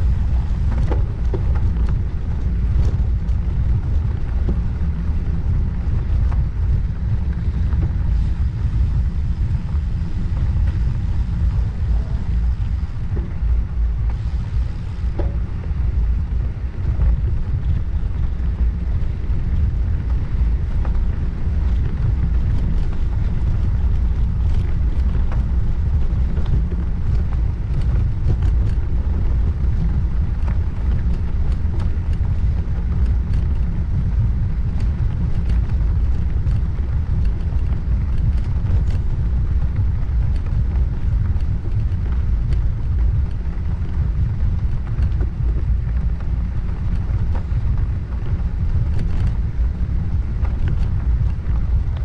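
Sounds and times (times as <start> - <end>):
bicycle tyre rumble: 0.0 - 52.0
small ticks and clicks: 0.0 - 52.0
wind buffeting microphone: 0.0 - 52.0.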